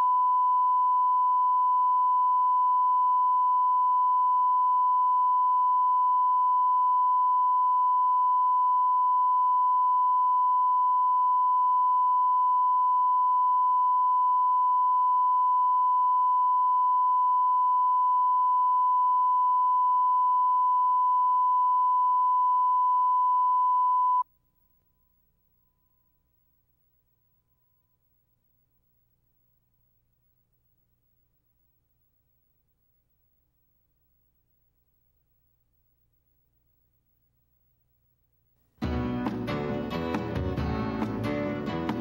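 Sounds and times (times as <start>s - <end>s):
steady sine reference tone: 0.0s - 37.6s.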